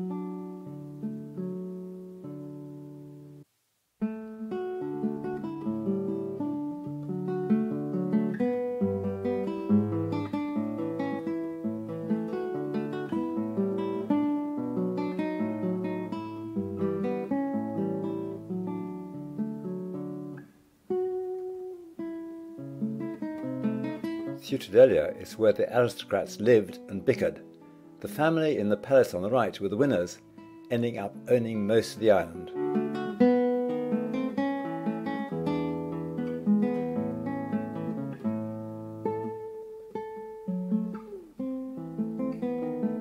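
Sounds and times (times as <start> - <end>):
acoustic guitar music: 0.0 - 43.0.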